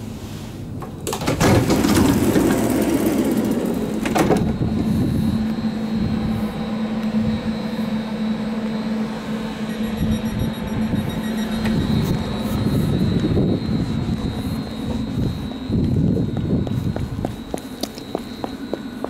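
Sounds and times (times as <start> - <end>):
electrical hum and high whine: 0.0 - 19.0
train door opening: 0.0 - 19.0.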